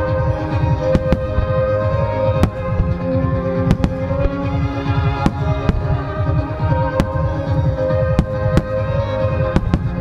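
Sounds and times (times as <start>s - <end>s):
music: 0.0s - 10.0s
sharp fireworks bangs: 0.7s - 10.0s
fireworks launches and bursts: 0.8s - 10.0s.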